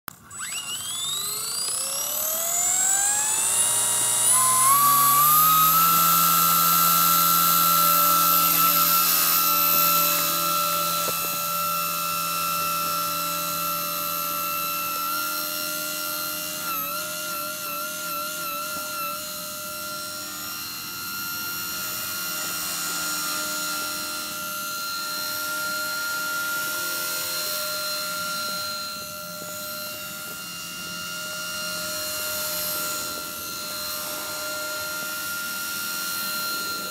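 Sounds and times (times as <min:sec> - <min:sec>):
electric helicopter motor whine: 0:00.1 - 0:36.9
rotor noise: 0:00.1 - 0:36.9.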